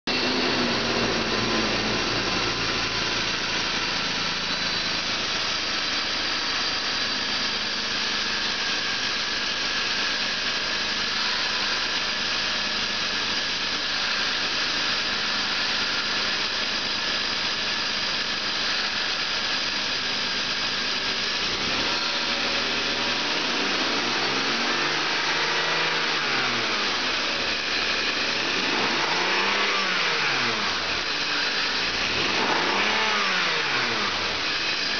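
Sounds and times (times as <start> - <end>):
car engine running and revving: 0.1 - 34.9.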